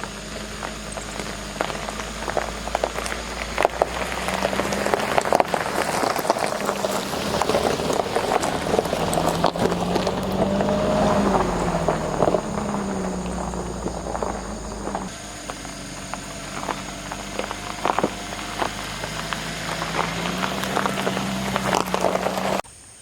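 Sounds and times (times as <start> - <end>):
engine hum: 0.0 - 22.6
gravel crackling under tyres: 0.0 - 23.0.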